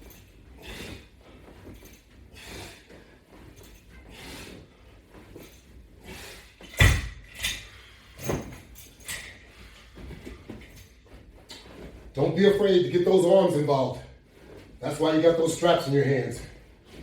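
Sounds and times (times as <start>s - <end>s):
heavy rhythmic breathing: 0.0s - 17.0s.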